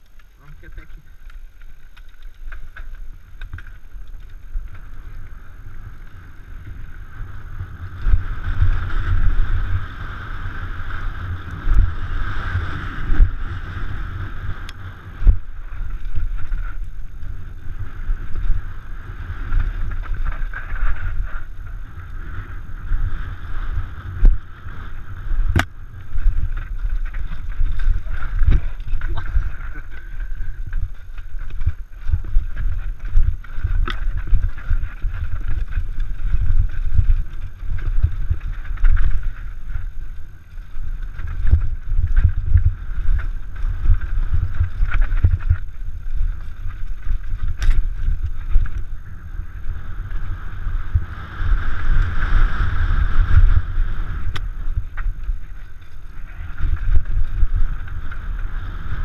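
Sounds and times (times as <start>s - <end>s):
bike knocking and rattling: 0.0s - 59.0s
tyres rumbling over dirt: 0.0s - 59.0s
wind buffeting microphone: 0.0s - 59.0s.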